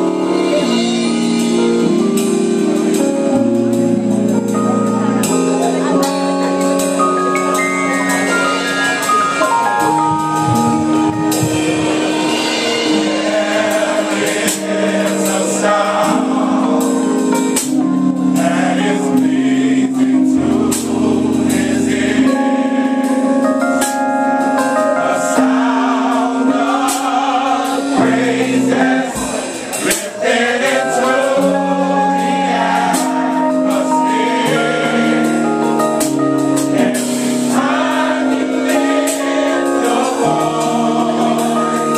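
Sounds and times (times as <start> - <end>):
gospel choir singing: 0.0 - 41.9
held instrumental chords: 0.0 - 41.9
percussion hits: 5.2 - 41.9.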